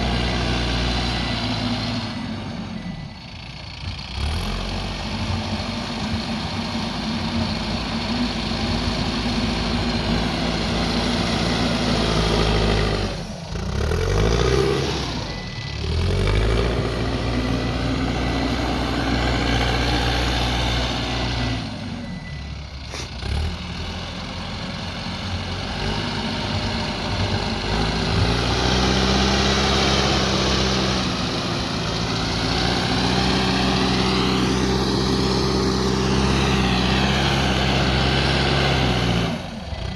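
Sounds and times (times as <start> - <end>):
backhoe diesel engine under load: 0.0 - 39.9.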